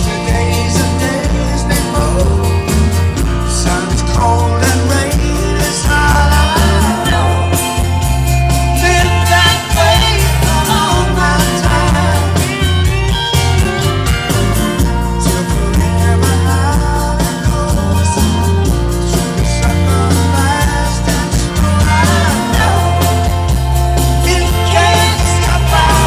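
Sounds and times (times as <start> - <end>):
person singing lead vocal: 0.0 - 13.4, 14.2 - 26.0
live rock band playing: 0.0 - 26.0.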